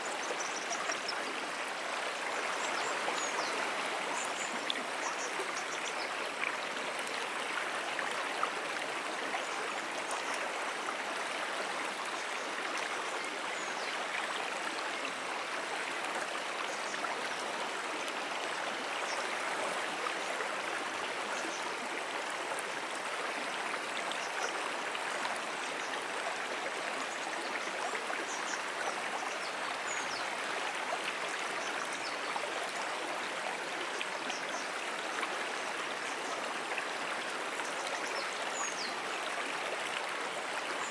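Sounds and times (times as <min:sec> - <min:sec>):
stream rushing over its bed: 0:00.0 - 0:40.9.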